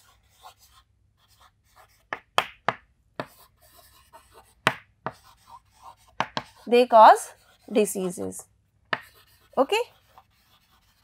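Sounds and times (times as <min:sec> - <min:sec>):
chalk tapping and scratching on chalkboard: 0:00.0 - 0:08.3, 0:08.9 - 0:11.0.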